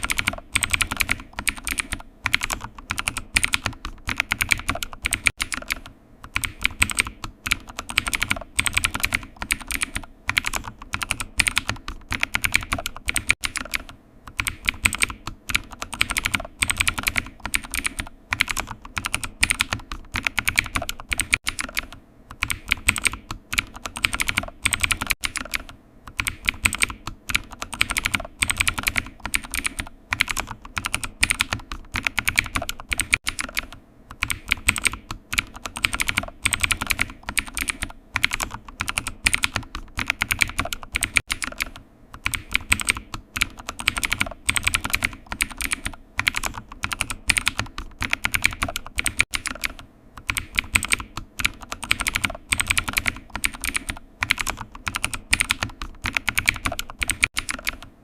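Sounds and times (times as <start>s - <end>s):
computer keyboard typing: 0.0s - 58.0s.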